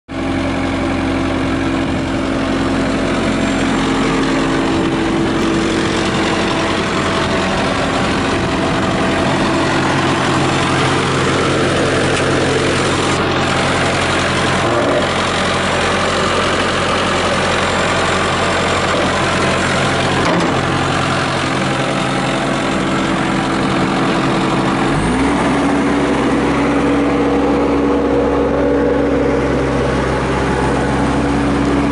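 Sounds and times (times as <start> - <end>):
diesel engine idling: 0.1 - 31.9.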